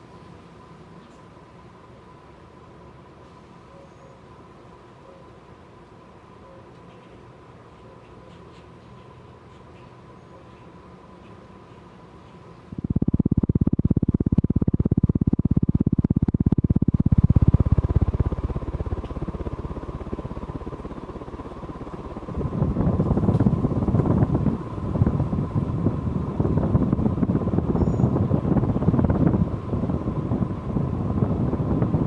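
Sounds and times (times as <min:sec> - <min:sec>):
ceiling fan buffeting microphone: 0:00.0 - 0:32.0
faint steady hum: 0:00.0 - 0:32.0.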